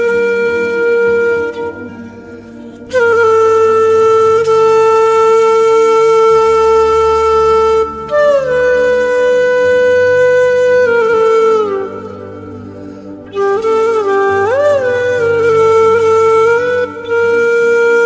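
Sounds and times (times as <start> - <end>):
flute-like wind instrument: 0.0 - 18.0
low drone: 0.0 - 18.0.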